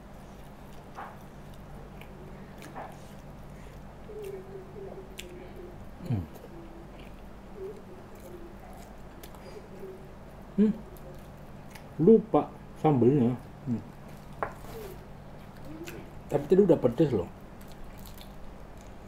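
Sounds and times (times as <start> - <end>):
man chewing food: 0.0 - 16.5, 17.4 - 19.0
steady low hum: 0.0 - 19.0.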